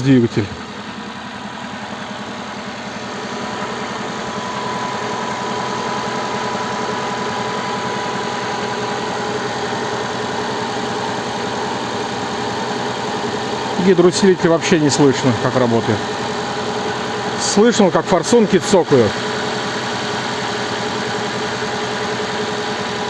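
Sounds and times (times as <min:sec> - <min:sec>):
car engine idling fast: 0:00.0 - 0:23.0
fuel injectors ticking: 0:00.0 - 0:23.0.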